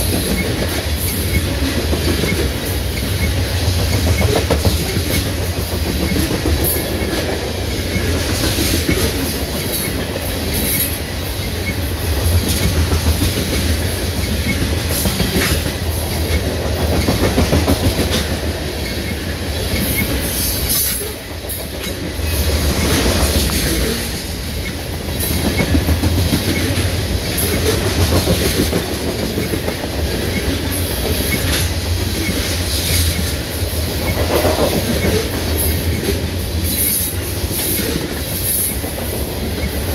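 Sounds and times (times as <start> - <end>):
freight train wheels rumbling: 0.0 - 39.9
wheels clacking over rail joints: 0.0 - 39.9.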